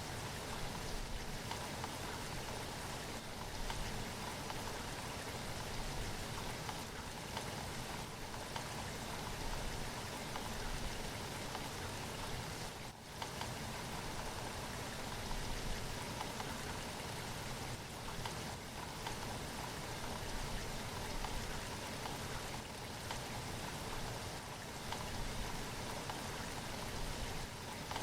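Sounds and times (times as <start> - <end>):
raindrops ticking on a surface: 0.0 - 28.0.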